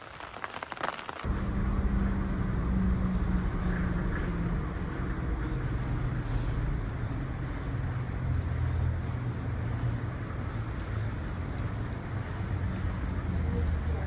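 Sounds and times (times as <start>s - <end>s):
vehicle engine humming: 1.3s - 14.0s.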